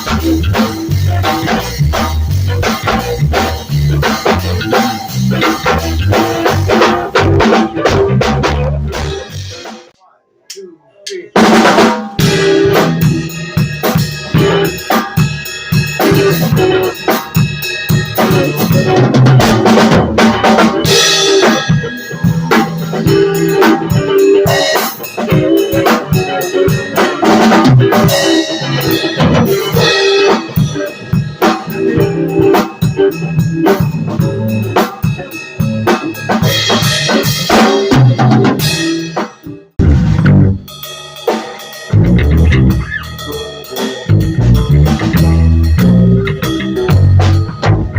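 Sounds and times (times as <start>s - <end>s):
live band playing: 0.0s - 10.0s, 11.1s - 47.9s
drum kit: 0.0s - 47.9s.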